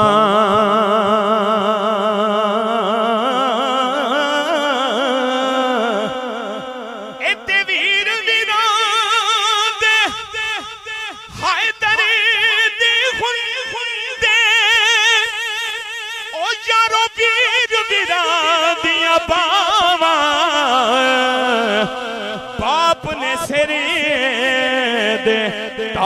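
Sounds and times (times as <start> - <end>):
man singing with vibrato: 0.0 - 26.0.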